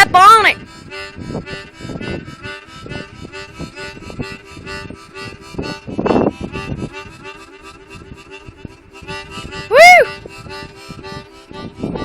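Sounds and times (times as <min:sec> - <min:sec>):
harmonica playing blues chords: 0:00.0 - 0:12.0
wind gusting over microphone: 0:00.0 - 0:12.0.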